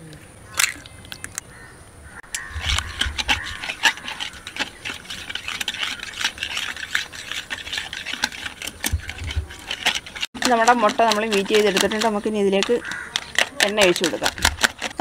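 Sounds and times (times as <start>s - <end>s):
whisk beating eggs in bowl: 2.6s - 15.0s.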